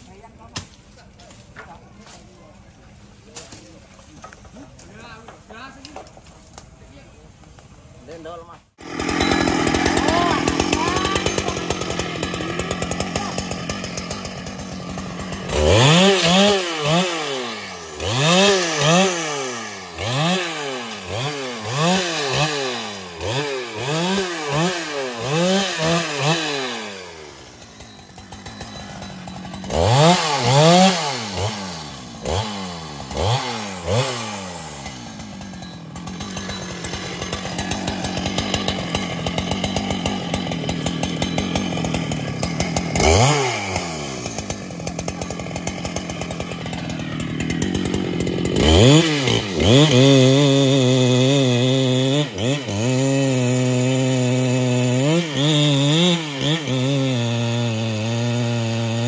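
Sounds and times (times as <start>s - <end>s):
chainsaw cutting brush and branches: 0.0s - 59.0s
chainsaw revving and idling: 7.6s - 59.0s.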